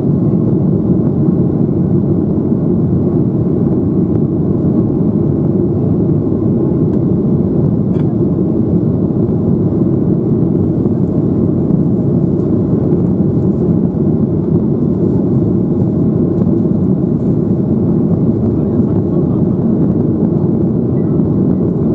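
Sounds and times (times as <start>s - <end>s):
jet airliner engine rumble: 0.0s - 21.9s.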